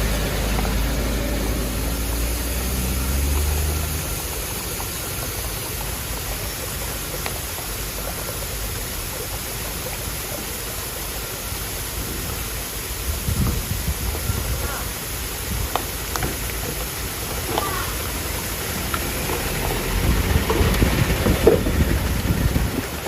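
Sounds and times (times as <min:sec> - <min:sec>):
heavy rain hissing: 0:00.0 - 0:23.0
vehicle engine running low: 0:00.0 - 0:23.0.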